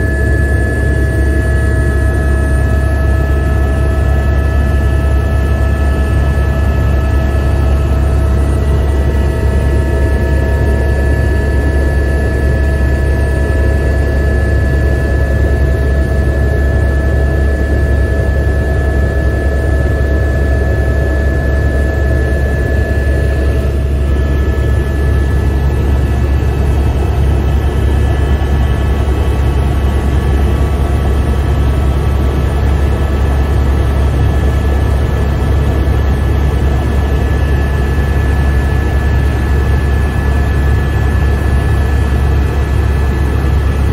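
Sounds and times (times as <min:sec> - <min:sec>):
helicopter rotor drone: 0:00.0 - 0:43.9
steady whining tones: 0:00.0 - 0:43.9.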